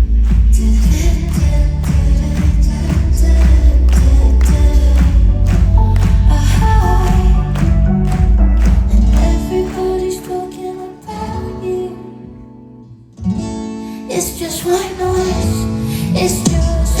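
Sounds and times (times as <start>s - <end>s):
live pop band with guitar: 0.0s - 17.0s
woman singing: 0.3s - 12.5s, 14.0s - 17.0s.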